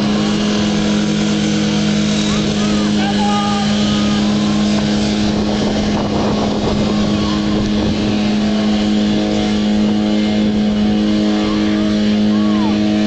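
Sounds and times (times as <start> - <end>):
motor pump engine running: 0.0 - 13.0.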